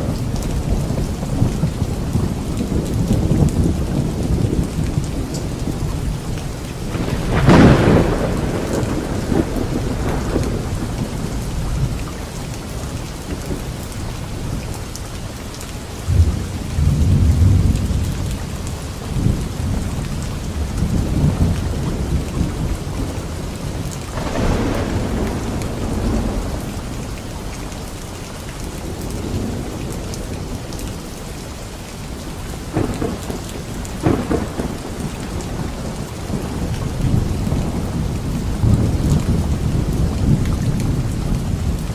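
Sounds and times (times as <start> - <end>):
thunder rumbling: 0.0 - 14.8, 16.1 - 31.2, 32.1 - 41.9
rain falling on leaves: 0.0 - 41.9.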